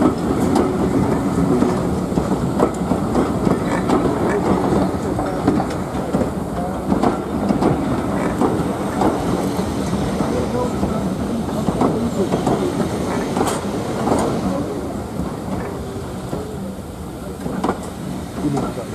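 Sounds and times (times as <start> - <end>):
train wheels clicking over rail joints: 0.0 - 18.9.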